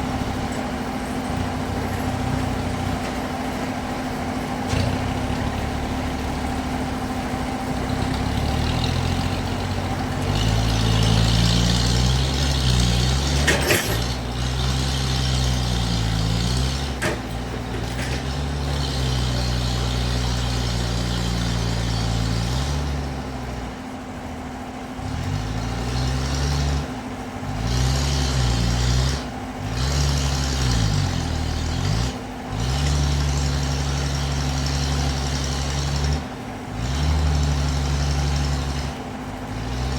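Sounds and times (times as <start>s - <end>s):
heavy engine revving: 0.0s - 39.9s.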